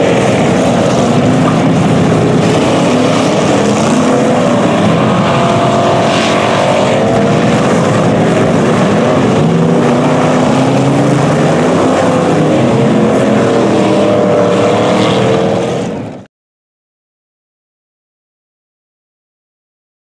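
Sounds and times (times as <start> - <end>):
race car engines: 0.0 - 16.3.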